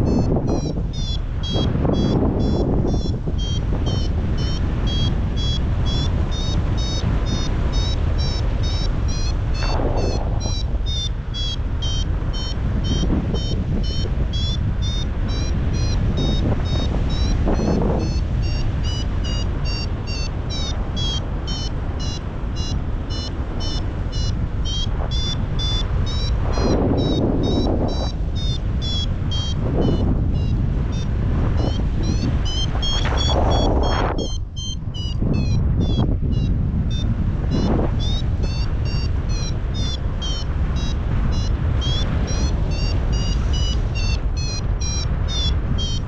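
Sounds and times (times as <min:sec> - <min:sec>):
variometer beeping: 0:00.0 - 0:46.0
wind on microphone: 0:00.0 - 0:46.0.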